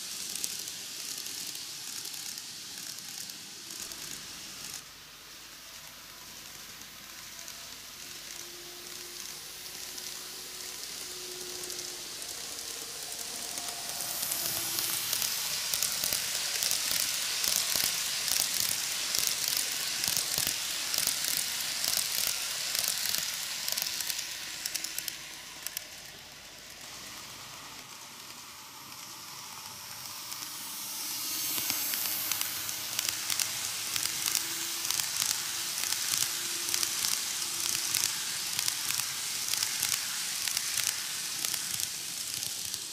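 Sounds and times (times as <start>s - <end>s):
model train wheels rattling: 0.0s - 4.8s, 5.7s - 42.9s.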